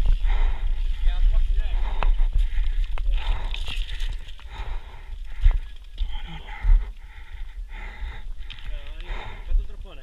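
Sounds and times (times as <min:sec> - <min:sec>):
low wind rumble on microphone: 0:00.0 - 0:10.0.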